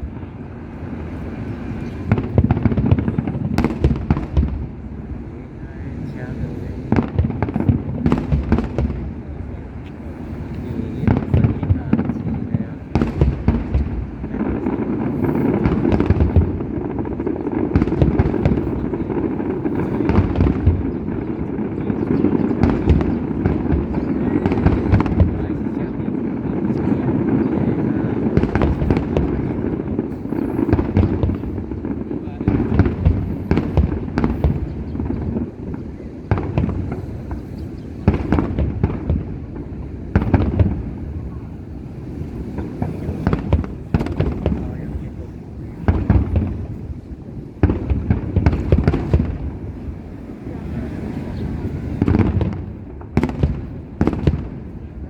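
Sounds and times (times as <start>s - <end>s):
fireworks booming and cracking: 0.0s - 55.0s.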